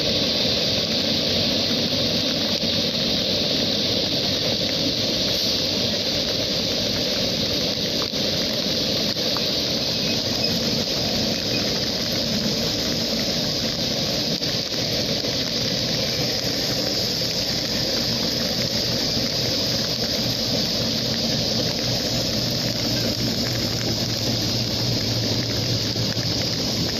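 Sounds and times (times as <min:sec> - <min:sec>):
low engine hum: 0:00.0 - 0:26.9
train and heavy rain rushing: 0:00.0 - 0:26.9.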